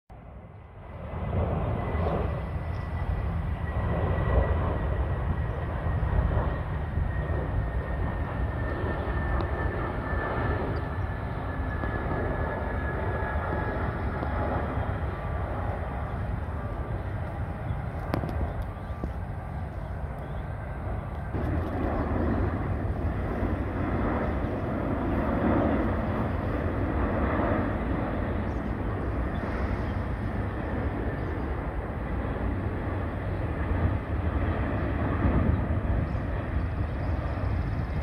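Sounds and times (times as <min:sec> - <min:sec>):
jet airliner passing overhead: 0:00.1 - 0:38.0.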